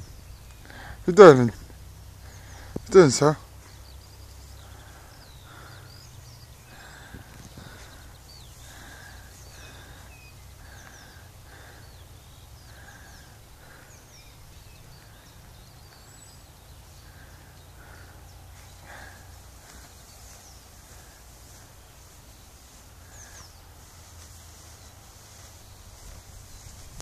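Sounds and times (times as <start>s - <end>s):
high falling songbird chirps: 0.0s - 27.0s
low rumble of wind: 0.0s - 27.0s.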